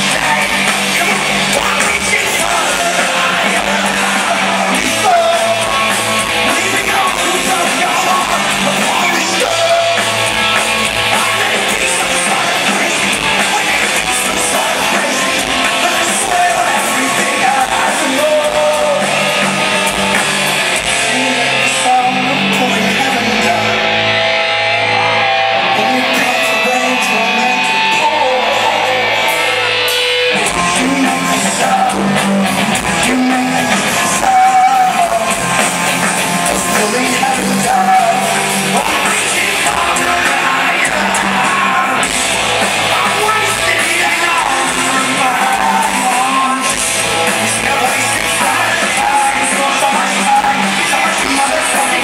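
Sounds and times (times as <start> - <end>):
electric guitar: 0.0 - 52.0
lead singer singing: 0.0 - 52.0
rock band playing live: 0.0 - 52.0.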